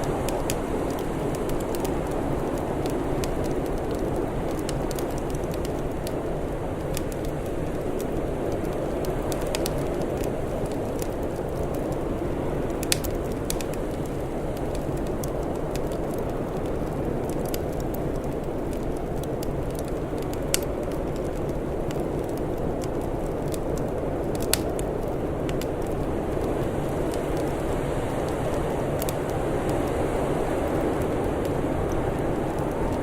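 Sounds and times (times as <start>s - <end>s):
fire pops: 0.0s - 33.0s
open fire crackling: 0.0s - 33.0s.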